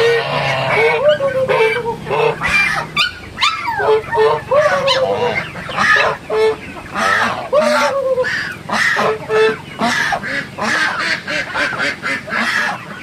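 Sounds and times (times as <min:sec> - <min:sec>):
ducks calling loudly: 0:00.0 - 0:13.0.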